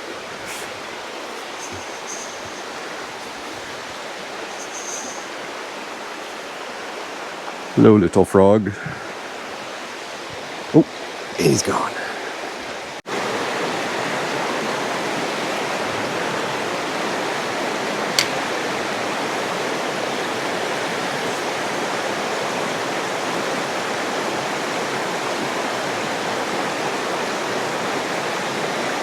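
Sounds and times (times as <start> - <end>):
water flowing over rocks: 0.0 - 7.8, 8.8 - 29.0.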